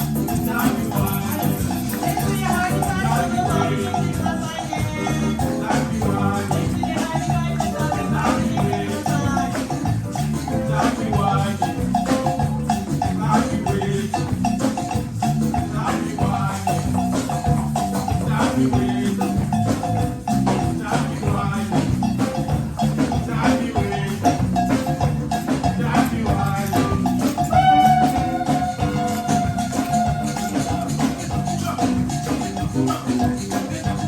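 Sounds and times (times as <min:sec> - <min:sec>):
percussion-led live band: 0:00.0 - 0:34.0.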